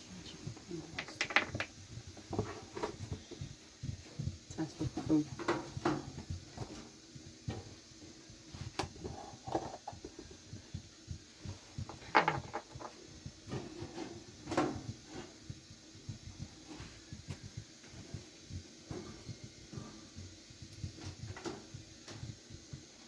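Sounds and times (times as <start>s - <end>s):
irregular knocks and clatters: 0.5s - 22.9s.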